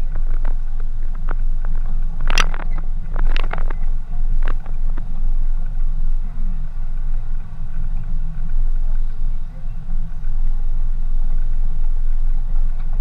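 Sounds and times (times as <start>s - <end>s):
vehicle rumbling on dirt track: 0.0s - 13.0s.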